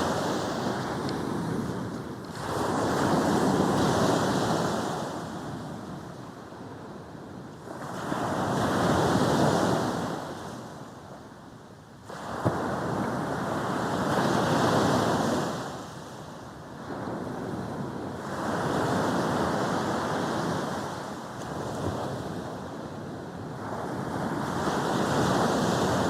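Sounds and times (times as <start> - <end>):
wind on the microphone: 0.0 - 11.4, 12.0 - 26.0
sea waves breaking on a beach: 0.0 - 26.0.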